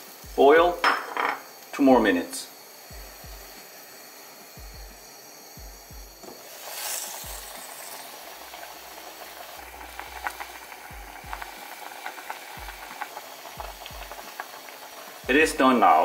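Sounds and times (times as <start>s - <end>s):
stew boiling in a pot: 0.0s - 16.0s.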